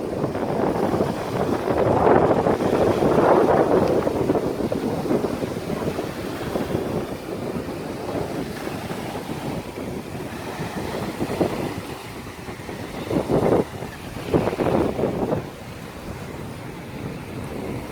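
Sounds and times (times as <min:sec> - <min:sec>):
small waves washing on shore: 0:00.0 - 0:17.9
wind buffeting microphone: 0:00.0 - 0:17.9.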